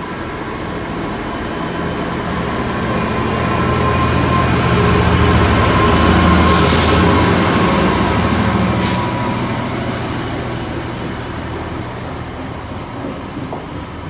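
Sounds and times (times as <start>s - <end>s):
diesel locomotive engine under load: 0.0s - 14.0s.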